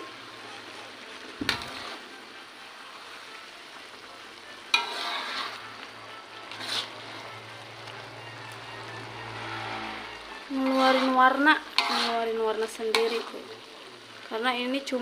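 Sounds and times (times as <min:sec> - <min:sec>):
squid sizzling in sauce: 0:00.0 - 0:15.0.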